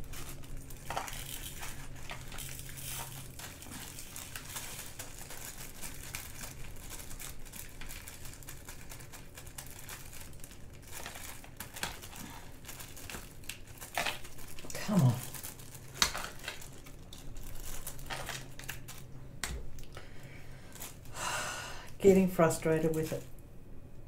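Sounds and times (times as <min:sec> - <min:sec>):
plastic bags crinkling: 0:00.0 - 0:23.4.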